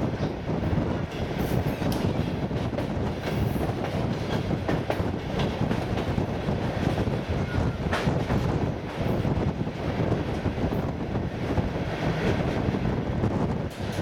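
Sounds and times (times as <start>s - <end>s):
train running gear rumble: 0.0s - 14.0s.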